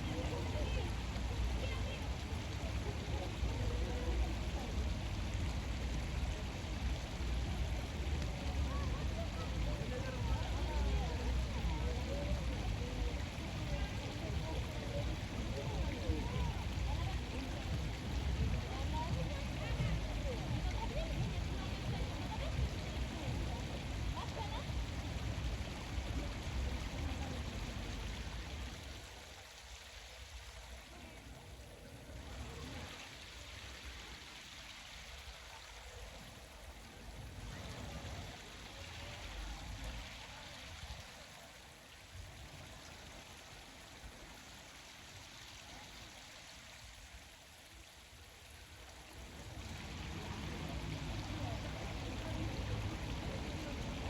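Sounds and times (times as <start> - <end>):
low water rumble: 0.0 - 54.0
running water trickling: 0.0 - 54.0.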